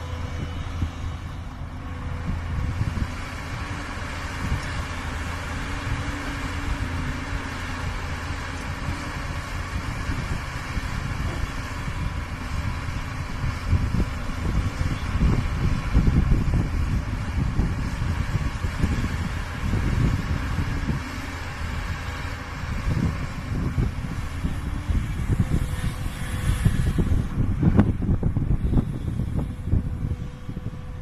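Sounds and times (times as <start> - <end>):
heavy diesel engines rumbling: 0.0 - 31.0.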